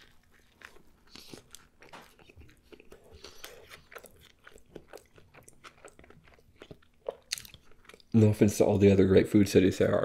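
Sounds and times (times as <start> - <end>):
person chewing and crunching: 0.0 - 8.4.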